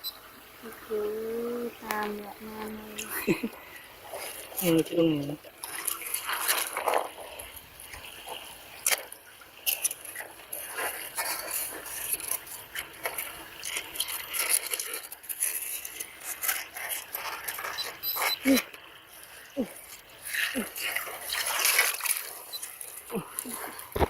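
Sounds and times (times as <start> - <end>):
scraping: 1.9 - 24.0.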